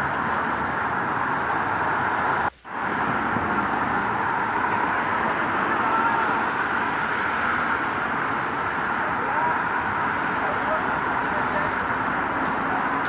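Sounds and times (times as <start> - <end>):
rain falling on street: 0.0 - 13.0
traffic on wet road: 0.0 - 13.0.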